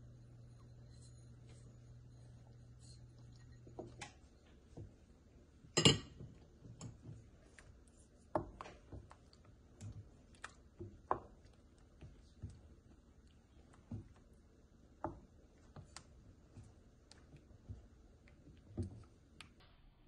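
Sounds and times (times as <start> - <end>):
wooden spoon stirring in pot: 0.0 - 19.6.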